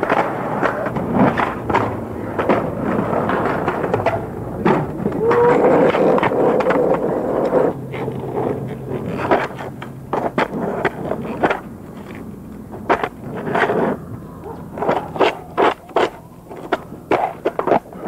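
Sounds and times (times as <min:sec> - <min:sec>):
skateboard clacking on ground: 0:00.0 - 0:18.0
skateboard wheels rolling: 0:00.0 - 0:18.0.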